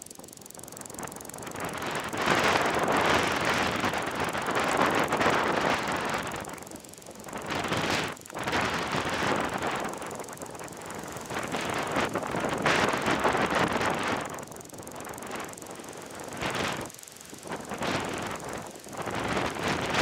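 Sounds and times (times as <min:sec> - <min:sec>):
gusty wind on microphone: 0:01.5 - 0:06.6, 0:07.3 - 0:14.4, 0:16.2 - 0:20.0.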